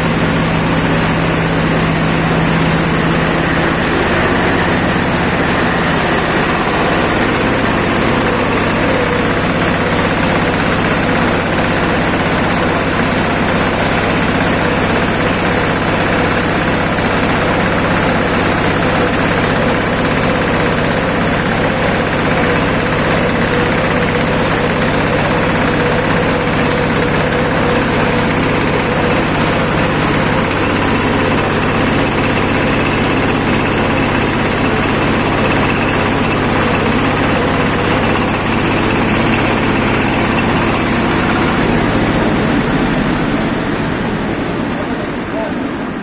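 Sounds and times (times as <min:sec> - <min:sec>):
baler mechanical clatter: 0:00.0 - 0:46.0
diesel engine droning: 0:00.0 - 0:46.0.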